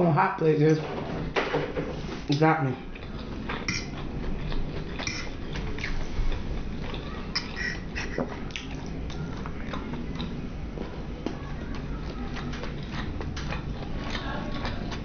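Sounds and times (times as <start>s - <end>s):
wet chewing mouth sounds: 2.3s - 15.0s.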